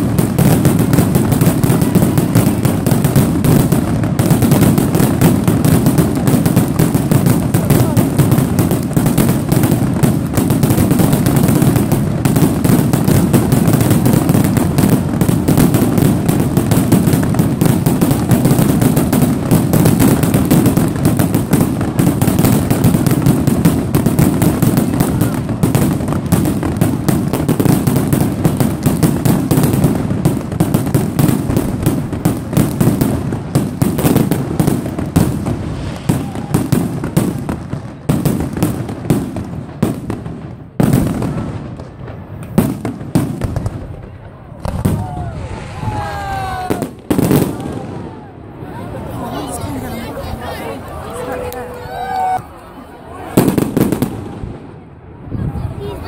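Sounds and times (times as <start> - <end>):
fireworks crackling bangs and pops: 0.0 - 52.4, 53.2 - 56.0.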